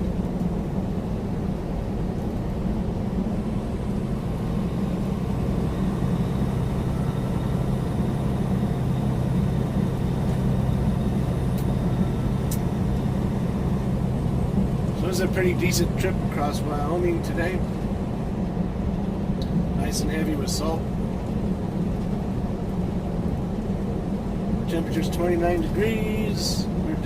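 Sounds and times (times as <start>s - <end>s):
truck engine and tyres droning: 0.0s - 27.0s.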